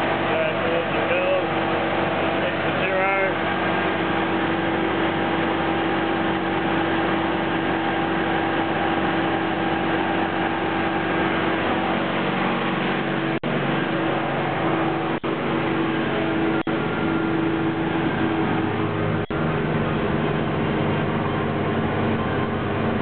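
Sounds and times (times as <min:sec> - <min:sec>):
engine running with hum: 0:00.0 - 0:23.0.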